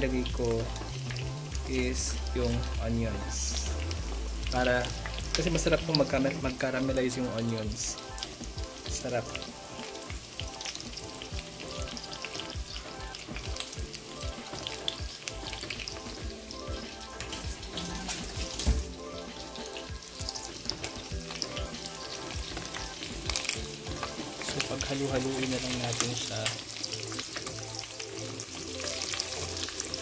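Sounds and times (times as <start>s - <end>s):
background music: 0.0s - 30.0s
meat sizzling in a pan: 0.0s - 30.0s.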